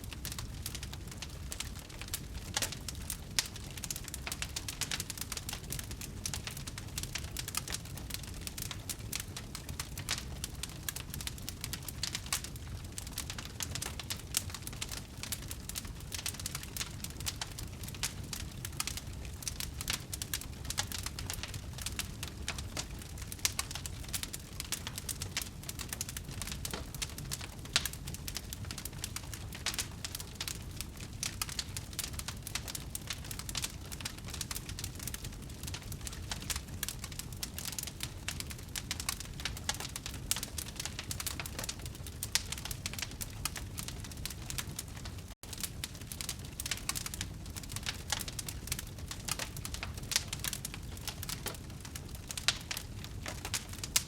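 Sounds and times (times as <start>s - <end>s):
low steady fire rumble: 0.0s - 54.0s
wood fire crackling: 0.0s - 54.0s.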